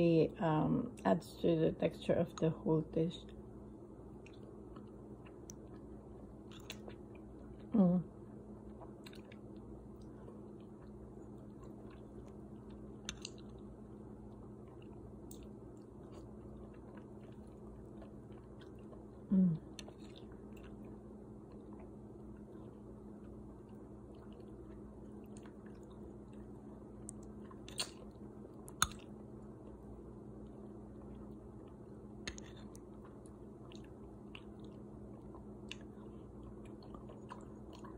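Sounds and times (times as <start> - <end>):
faint steady hum: 0.0 - 37.9
chewing soup: 4.1 - 7.7, 8.3 - 37.9.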